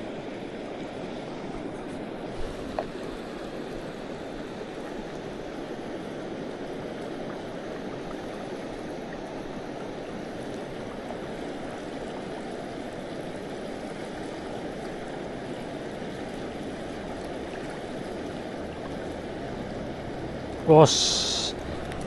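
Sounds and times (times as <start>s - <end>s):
river water flowing over stones: 0.0s - 22.0s.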